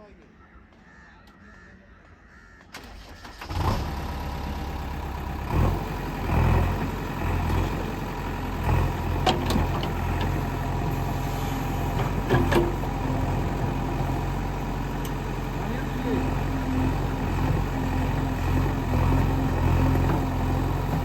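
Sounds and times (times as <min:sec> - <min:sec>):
diesel engine idling and revving: 0:02.8 - 0:21.0.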